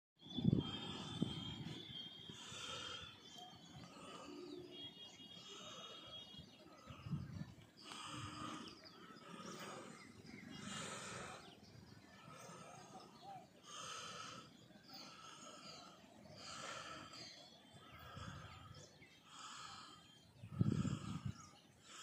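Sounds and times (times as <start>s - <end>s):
birds chirping: 0.2s - 22.0s.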